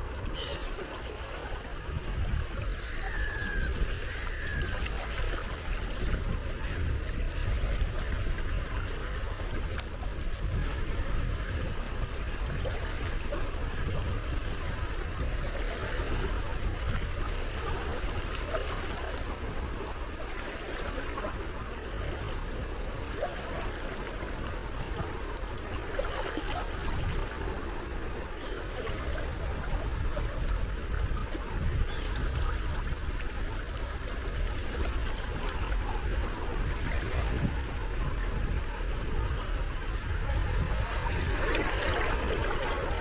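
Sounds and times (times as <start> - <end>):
small waves lapping at shore: 0.0 - 43.0.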